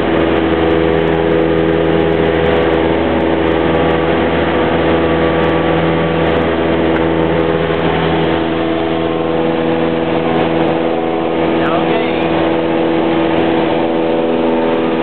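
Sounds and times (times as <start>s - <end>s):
aircraft engine and propeller: 0.0s - 15.0s.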